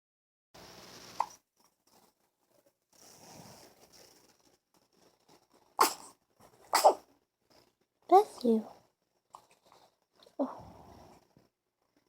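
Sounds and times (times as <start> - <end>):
faint background noise: 0.6 - 12.0.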